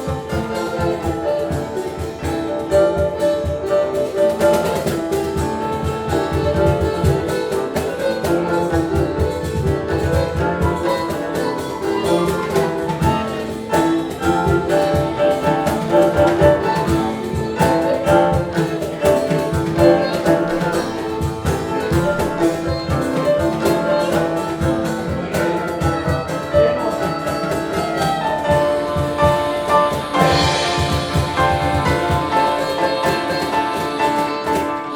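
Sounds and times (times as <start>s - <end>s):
drum kit beat: 0.0s - 34.9s
sustained melody line: 4.8s - 34.9s.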